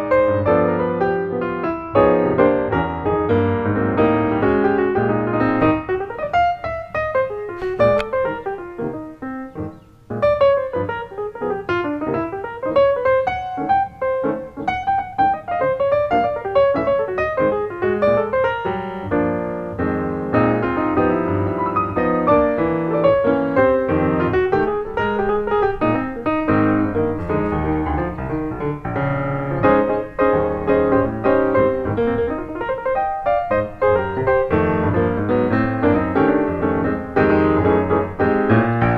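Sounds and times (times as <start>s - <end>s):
solo piano music: 0.0s - 38.9s.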